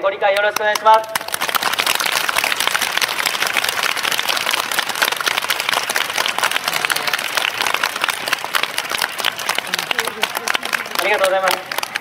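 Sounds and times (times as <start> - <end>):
crowd applauding: 0.4 - 12.0.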